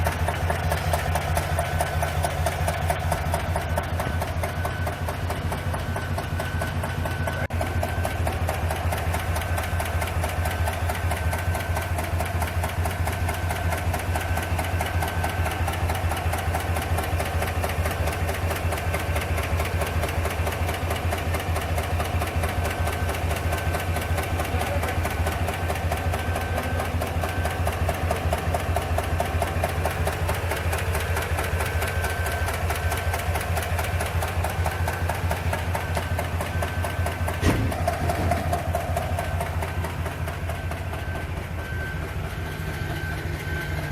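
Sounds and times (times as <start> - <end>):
engine running with fast ticking: 0.0 - 43.9.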